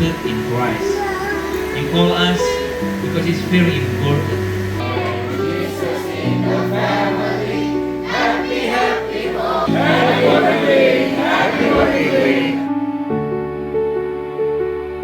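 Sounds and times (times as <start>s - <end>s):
choir singing: 0.0s - 12.7s
held instrumental chords: 0.0s - 13.3s.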